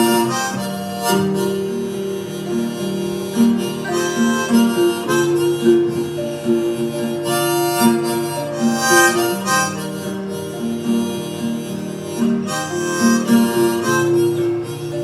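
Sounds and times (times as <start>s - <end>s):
harmonica solo: 0.0s - 15.0s
strummed acoustic guitar: 0.0s - 15.0s.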